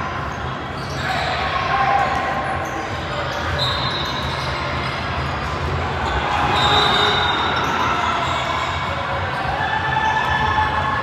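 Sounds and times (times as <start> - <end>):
echoing din of play: 0.0 - 11.0.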